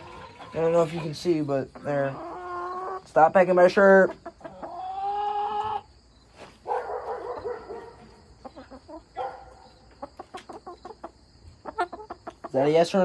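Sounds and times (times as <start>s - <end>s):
chicken squawk: 0.0s - 3.1s, 4.0s - 12.7s
chicken clucks: 0.0s - 13.0s
chickens calling: 0.0s - 13.0s.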